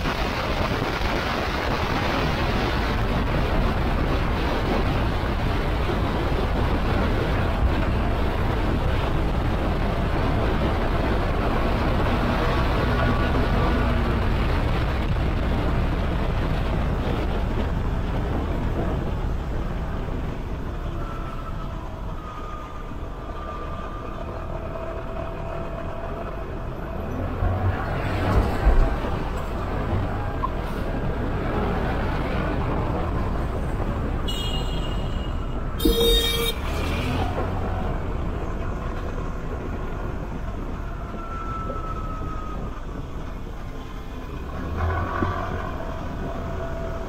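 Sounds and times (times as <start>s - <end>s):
wind and road noise: 0.0s - 47.0s.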